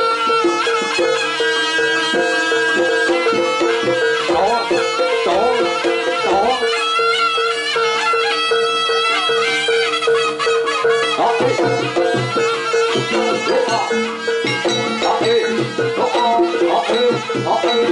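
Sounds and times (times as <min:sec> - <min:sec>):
traditional ensemble music: 0:00.0 - 0:17.9.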